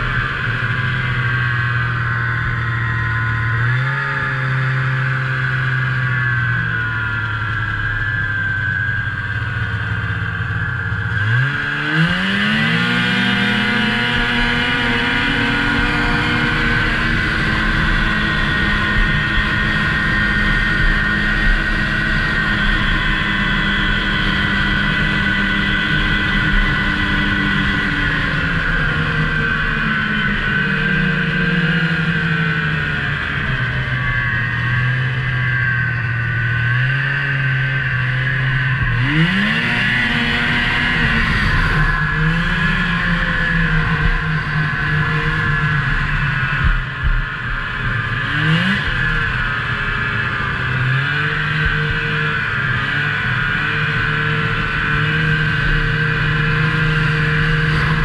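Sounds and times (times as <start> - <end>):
high drone from drive: 0.0 - 58.0
snowmobile engine revving: 0.0 - 58.0.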